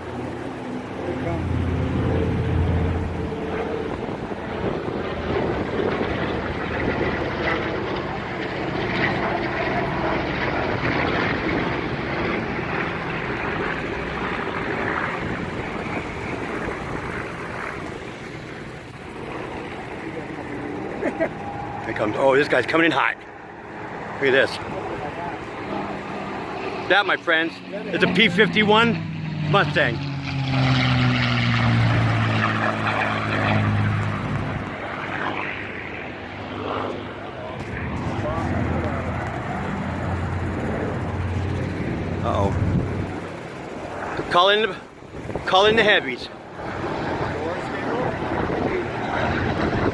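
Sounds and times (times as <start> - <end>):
propeller plane flying past: 0.0 - 49.9.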